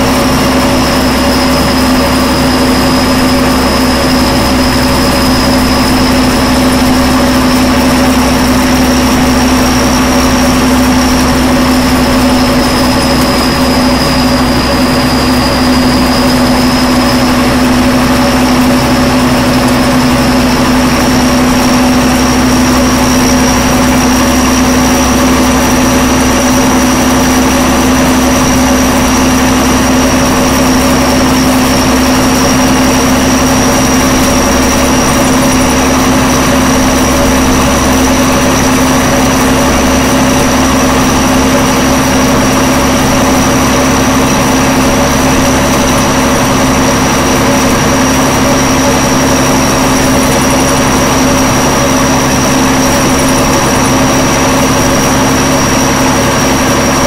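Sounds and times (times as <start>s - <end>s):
high whine: 0.0s - 57.0s
truck engine drone: 0.0s - 57.0s.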